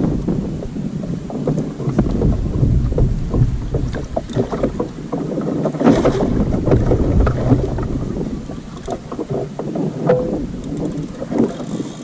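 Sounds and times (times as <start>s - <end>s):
rush of water: 0.0s - 12.0s
water slapping kayak hull: 0.0s - 12.0s
wind buffeting microphone: 0.0s - 12.0s.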